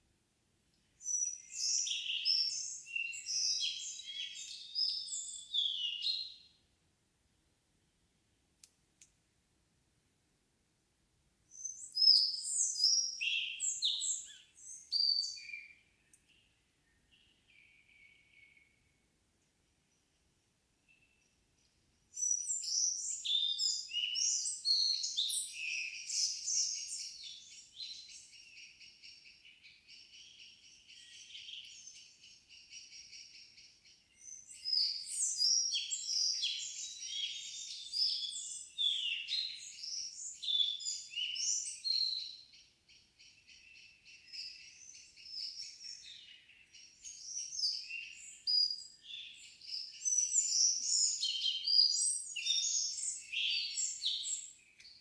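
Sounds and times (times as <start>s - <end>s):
songbirds singing: 0.7s - 6.7s, 11.5s - 55.0s.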